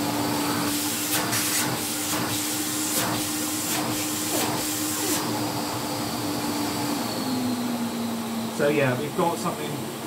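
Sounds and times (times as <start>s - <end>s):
vacuum cleaner motor whine: 0.0s - 10.0s.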